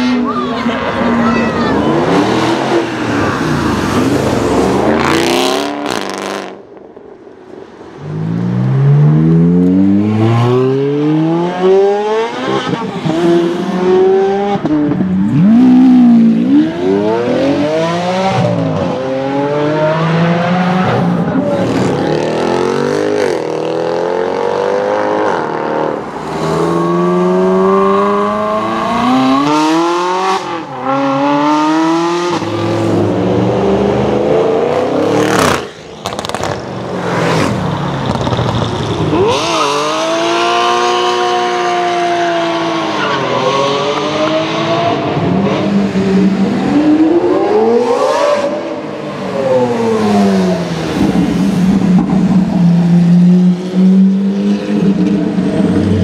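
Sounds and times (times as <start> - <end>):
sports car engines accelerating: 8.0 - 56.0.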